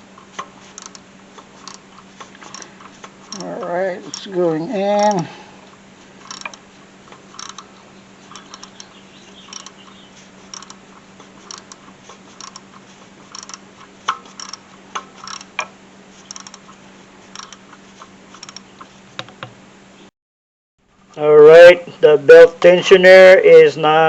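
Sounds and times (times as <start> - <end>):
faint steady hum: 0.0 - 20.1.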